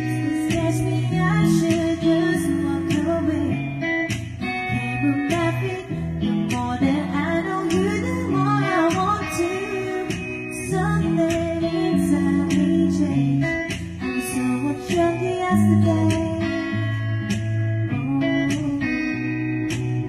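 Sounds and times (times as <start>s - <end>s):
backing track with guitar: 0.0s - 20.0s
woman singing into microphone: 0.0s - 20.0s.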